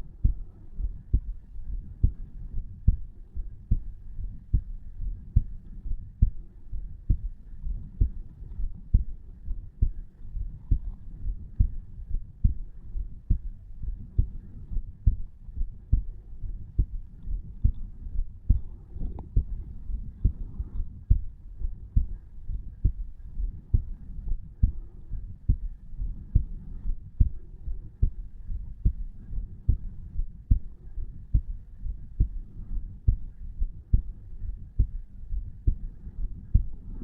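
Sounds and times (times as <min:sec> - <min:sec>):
heartbeat thumps: 0:00.0 - 0:37.0.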